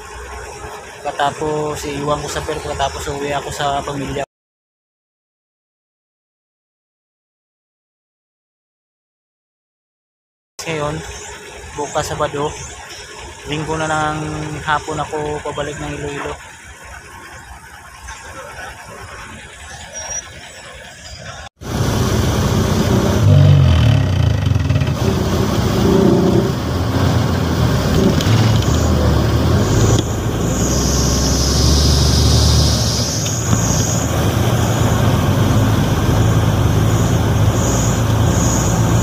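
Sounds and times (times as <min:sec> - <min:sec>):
diesel engine low drone: 0:00.0 - 0:04.3, 0:10.6 - 0:39.0
road noise: 0:00.0 - 0:04.3, 0:10.6 - 0:39.0
wind: 0:00.0 - 0:04.3, 0:10.6 - 0:39.0.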